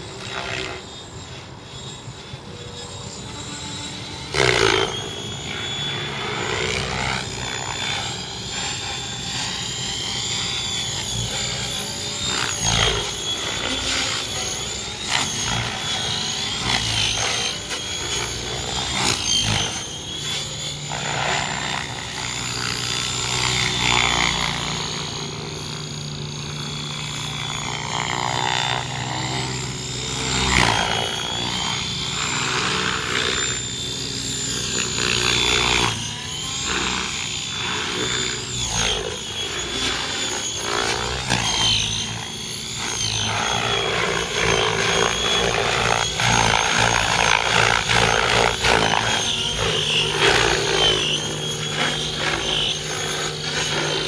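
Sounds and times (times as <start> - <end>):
rc helicopter motor whine: 0.0 - 54.0.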